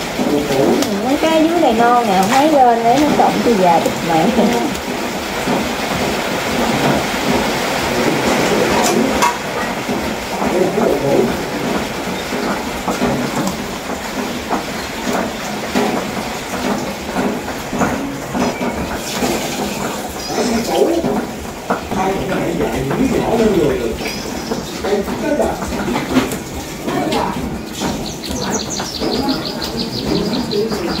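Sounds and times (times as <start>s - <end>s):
leaves and stems rustling: 0.0s - 31.0s.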